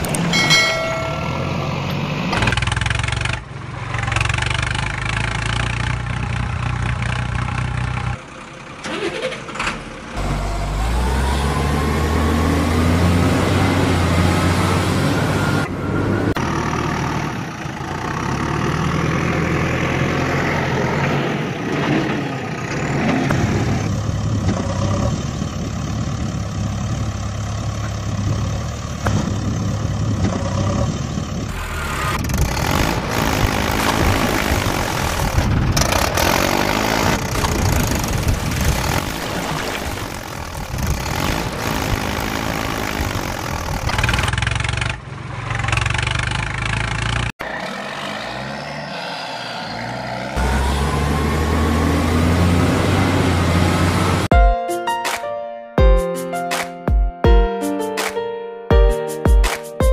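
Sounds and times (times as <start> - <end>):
heavy engine idling and revving: 0.0 - 54.3.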